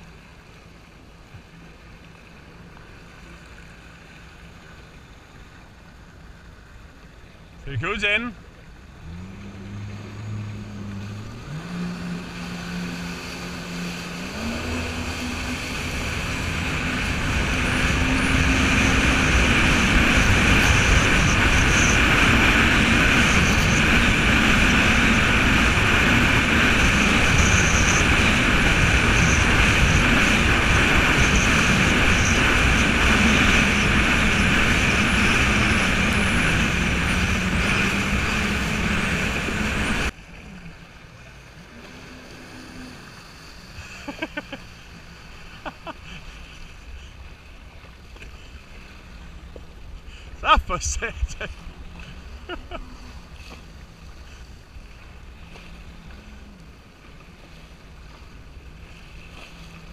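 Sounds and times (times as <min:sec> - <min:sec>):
jet ski engine accelerating: 0:00.0 - 0:59.9
rush of wind and water: 0:00.0 - 0:59.9.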